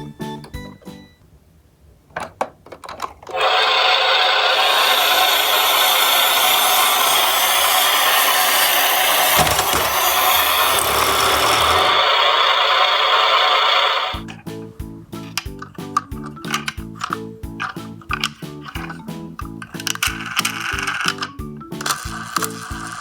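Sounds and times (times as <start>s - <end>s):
toy truck motor whirring: 3.3s - 14.3s, 15.3s - 23.0s.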